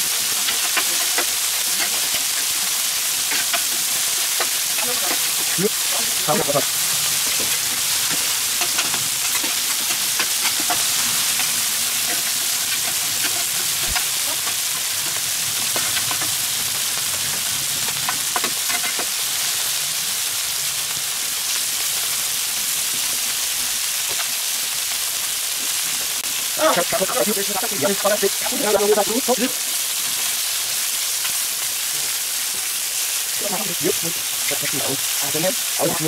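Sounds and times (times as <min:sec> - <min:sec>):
food sizzling on a griddle: 0:00.0 - 0:36.0.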